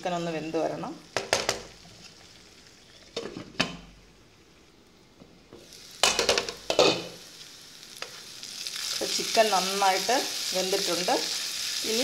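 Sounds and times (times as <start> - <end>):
faint sizzling: 0.0 - 12.0.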